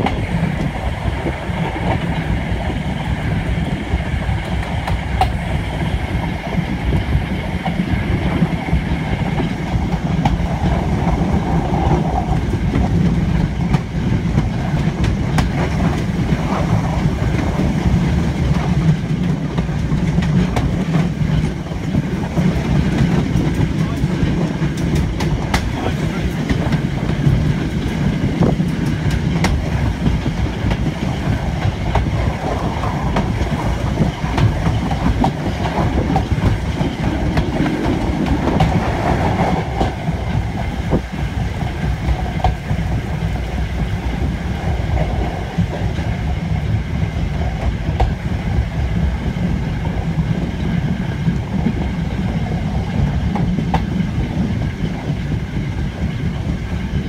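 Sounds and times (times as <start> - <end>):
train wheels rumbling on rail: 0.0 - 57.0
wheels clicking over rail joints: 6.2 - 57.0.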